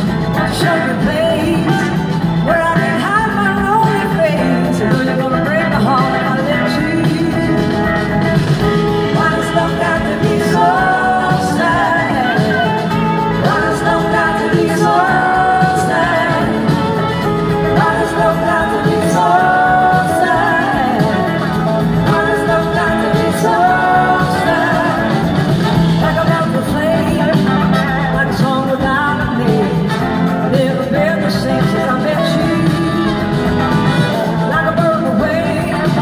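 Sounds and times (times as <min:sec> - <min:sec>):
blues-rock band playing: 0:00.0 - 0:36.0
woman singing: 0:00.2 - 0:08.2, 0:08.8 - 0:36.0.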